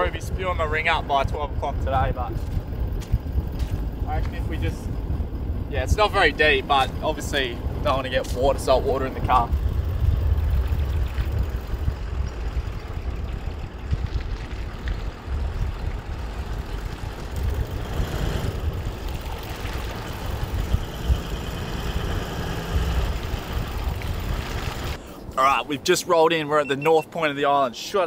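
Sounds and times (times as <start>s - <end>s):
vehicle engine low rumble: 0.0s - 25.4s.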